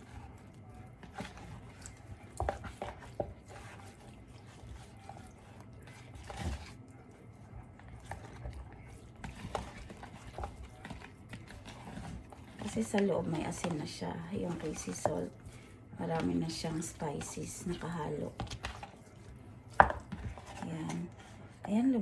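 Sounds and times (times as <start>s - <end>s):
soft wet squishes: 0.0s - 22.0s.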